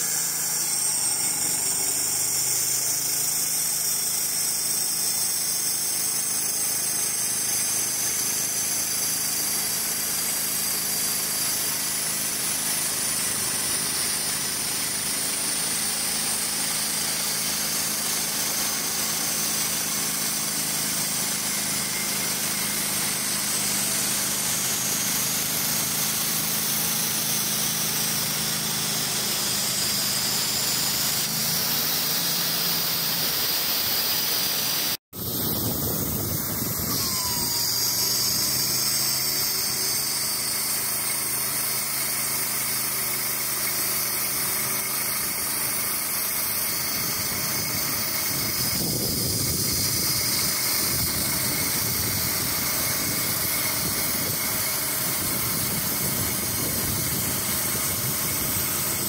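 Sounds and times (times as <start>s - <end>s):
sawmill sawing log: 0.0s - 59.0s.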